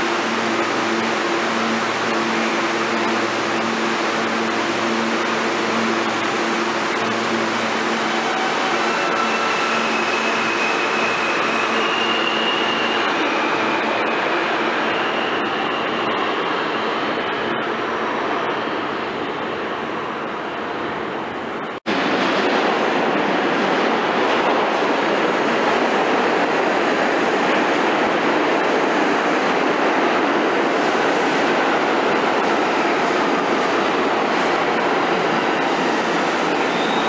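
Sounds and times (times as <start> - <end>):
subway train rumble: 0.0 - 37.0.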